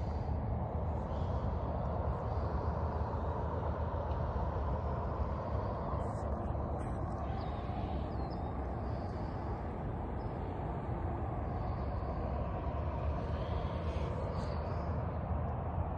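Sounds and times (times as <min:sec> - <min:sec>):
low outdoor background rumble: 0:00.0 - 0:15.9.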